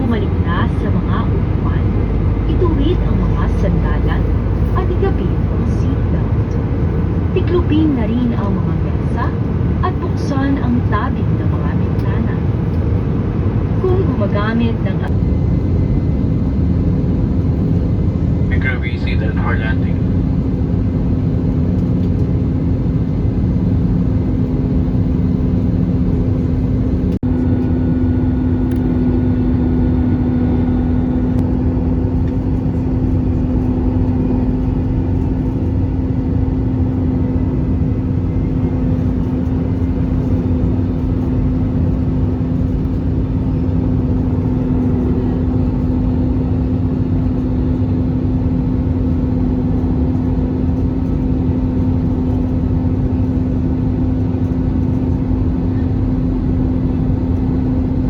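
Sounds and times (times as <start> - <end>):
aircraft cabin engine rumble: 0.0 - 58.0
droning hum: 0.0 - 58.0.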